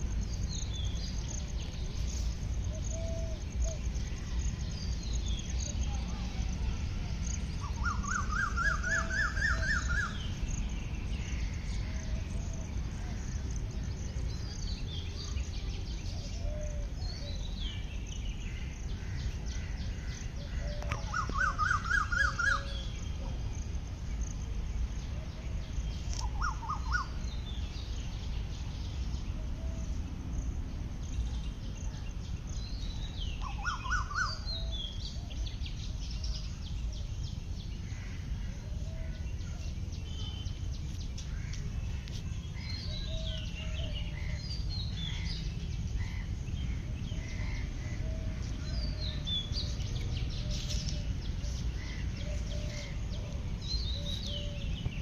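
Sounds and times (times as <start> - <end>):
birds chirping: 0.0 - 55.0
low background noise: 0.0 - 55.0.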